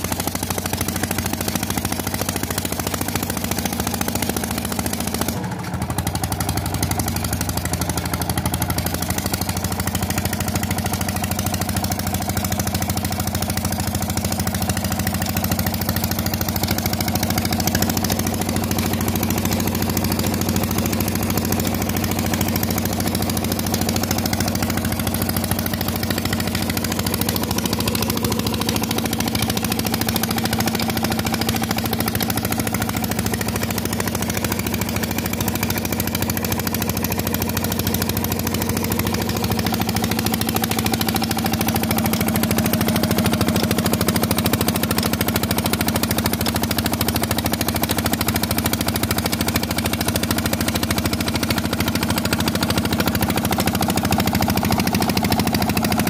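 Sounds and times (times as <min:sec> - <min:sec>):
diesel engine knocking: 0:00.0 - 0:56.0.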